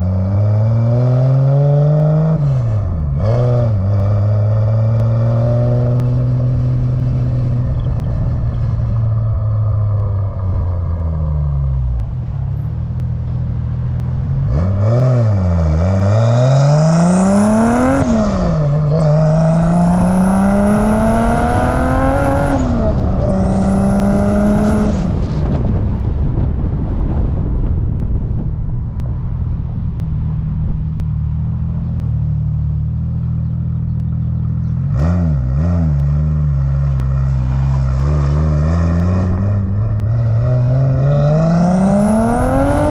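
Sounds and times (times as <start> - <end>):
turbocharged car engine accelerating: 0.0 - 42.9.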